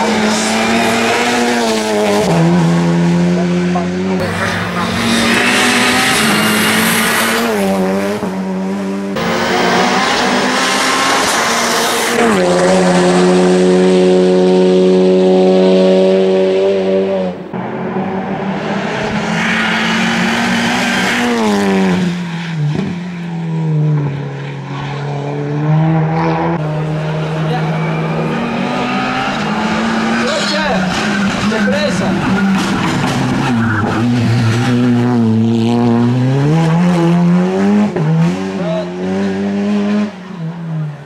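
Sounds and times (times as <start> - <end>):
race car engine accelerating: 0.0 - 41.0.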